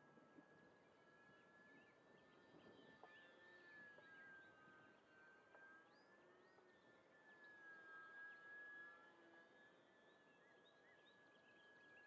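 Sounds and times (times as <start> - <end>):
distant model plane motor whine: 0.1 - 12.0.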